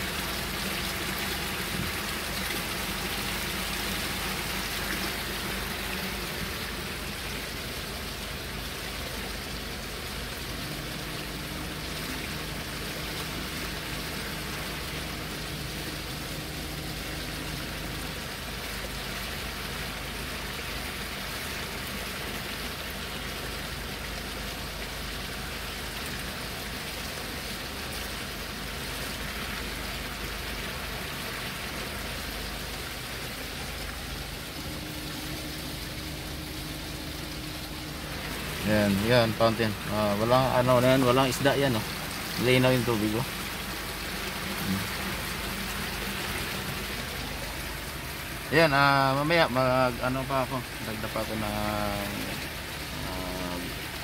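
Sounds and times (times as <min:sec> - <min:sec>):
fountain water splashing: 0:00.0 - 0:54.0.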